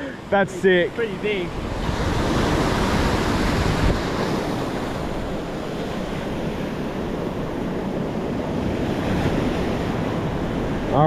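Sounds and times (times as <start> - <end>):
wind buffeting microphone: 0.8 - 11.0.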